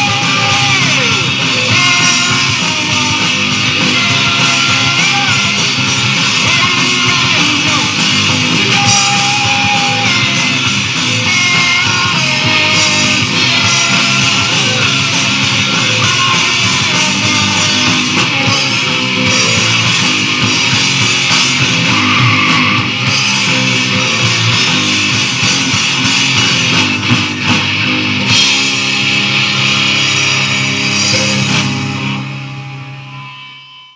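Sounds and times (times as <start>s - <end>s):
rock song with guitar and drums: 0.0s - 33.9s.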